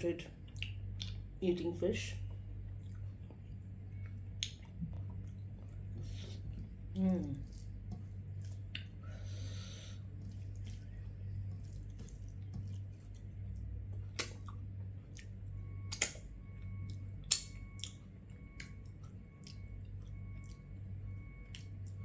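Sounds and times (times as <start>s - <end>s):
low steady hum: 0.0s - 22.0s
person chewing food: 0.4s - 1.3s, 2.2s - 22.0s.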